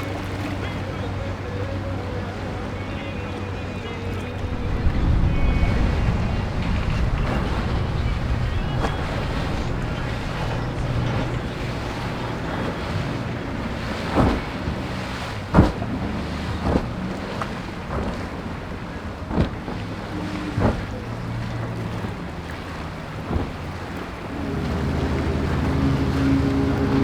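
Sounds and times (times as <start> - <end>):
motorboat engines running: 0.0 - 27.0
surf: 0.0 - 27.0
wind: 0.0 - 27.0.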